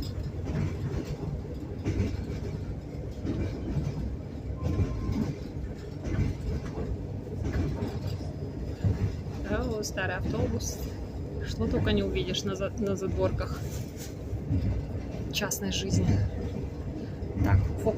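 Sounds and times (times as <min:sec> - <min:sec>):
train rumble: 0:00.0 - 0:17.9
train wheels clickety-clack: 0:00.0 - 0:17.9.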